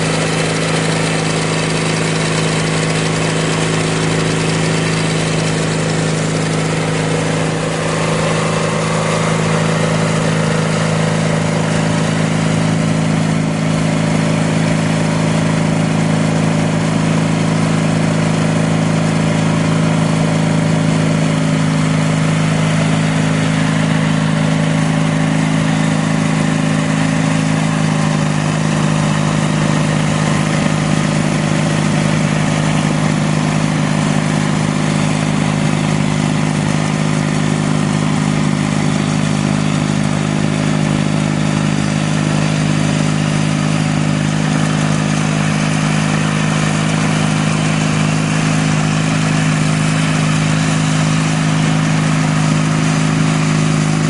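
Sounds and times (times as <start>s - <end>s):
garden tractor engine running: 0.0s - 54.0s
snowblower throwing snow: 0.0s - 54.0s.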